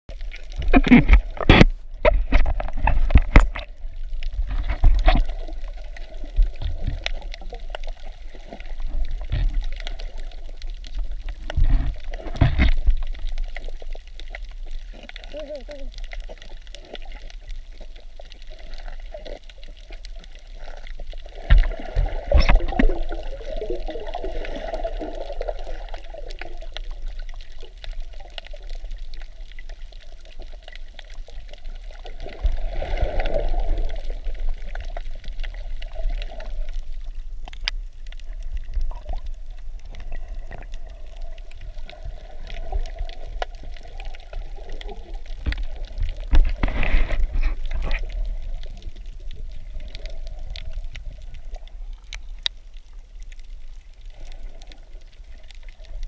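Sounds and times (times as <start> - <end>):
muffled underwater gurgling: 0.1 - 56.0.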